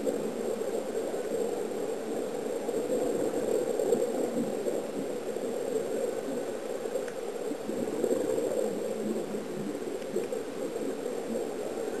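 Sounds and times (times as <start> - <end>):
underwater air bubbling: 0.0 - 12.0.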